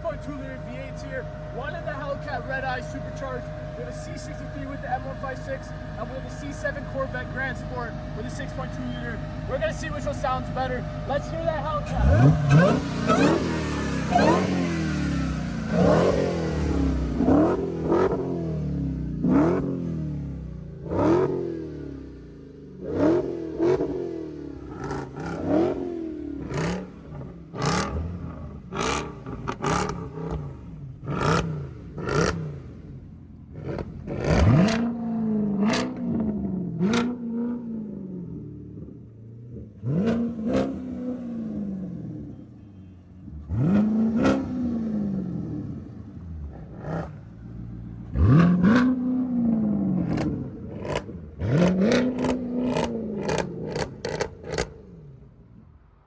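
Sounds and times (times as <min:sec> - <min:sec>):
car engine revving with cracks: 0:00.0 - 0:56.0.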